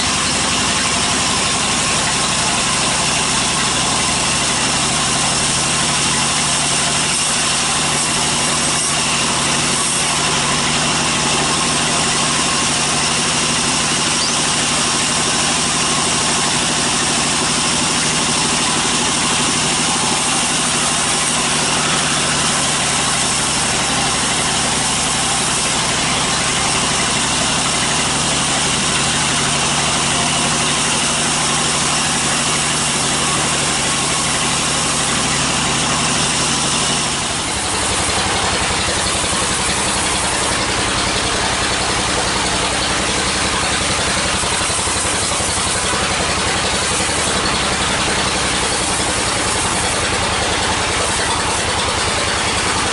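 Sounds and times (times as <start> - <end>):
band sawmill droning: 0.0 - 52.9.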